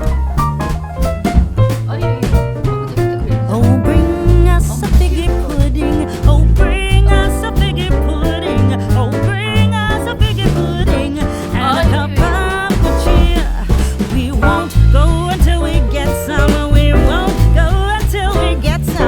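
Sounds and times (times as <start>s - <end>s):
guitar: 0.0s - 19.0s
steady bass: 0.0s - 19.0s
upbeat song with high vocal: 1.7s - 19.0s.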